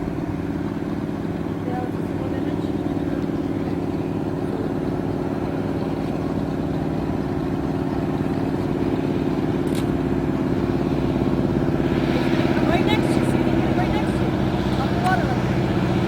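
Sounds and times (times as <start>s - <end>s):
plane engine running: 0.0s - 16.0s.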